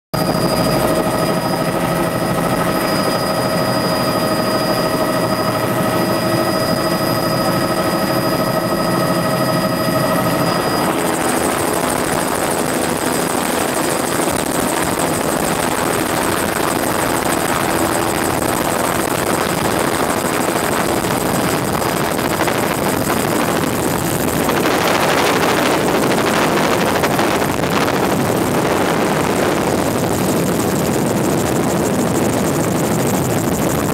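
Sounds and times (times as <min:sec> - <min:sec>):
helicopter engine and rotor: 0:00.2 - 0:33.9.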